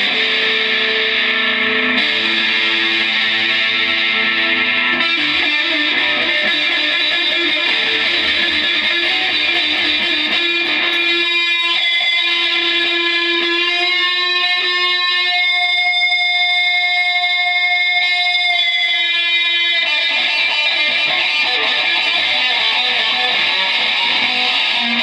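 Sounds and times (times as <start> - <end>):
loud electric guitar: 0.0 - 25.0.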